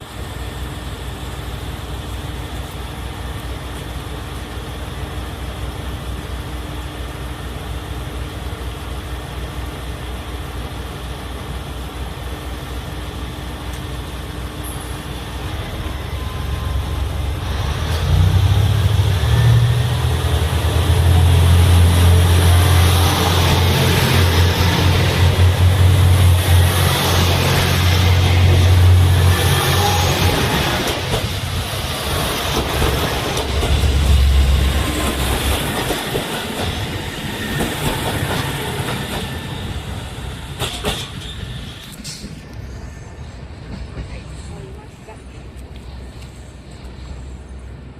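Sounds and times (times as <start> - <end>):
diesel railcar engines idling: 0.0 - 47.9.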